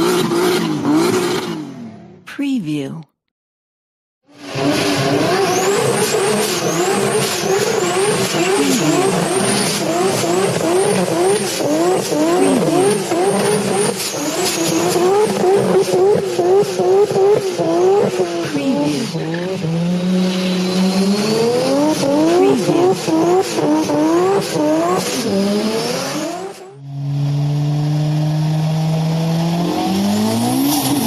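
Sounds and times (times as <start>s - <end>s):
race car engine revving: 0.0s - 2.0s, 4.4s - 31.0s.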